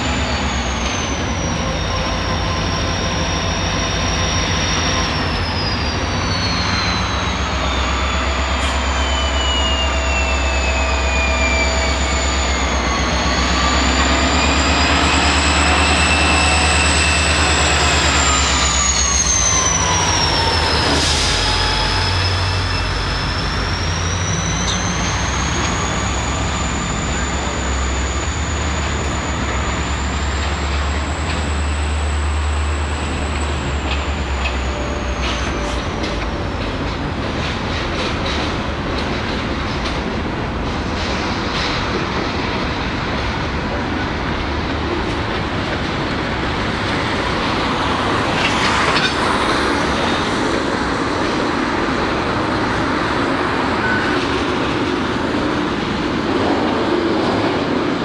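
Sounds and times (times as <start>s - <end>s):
high wheel squeal: 0.0s - 38.5s, 41.0s - 58.0s
rail rumble: 0.0s - 58.0s
train wheels clicking on rail joints: 6.1s - 58.0s.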